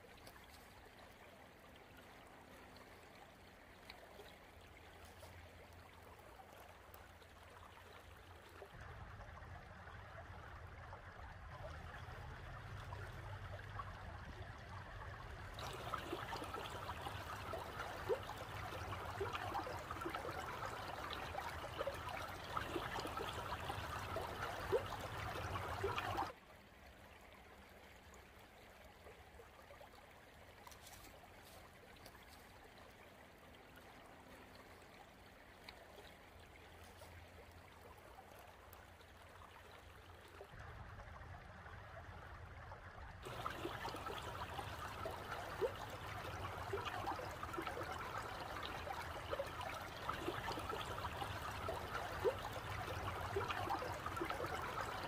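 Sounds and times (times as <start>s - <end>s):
creek water babbling over stones: 0.0s - 55.0s.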